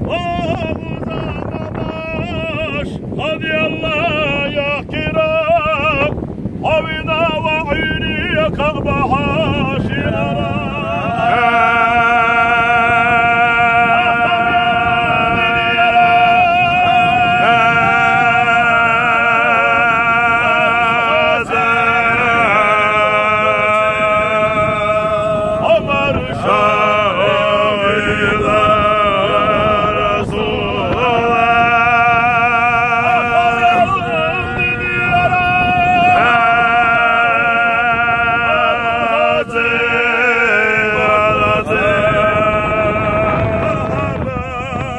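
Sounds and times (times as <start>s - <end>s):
men singing unaccompanied: 0.0s - 44.9s
steady low rumble: 0.0s - 44.9s.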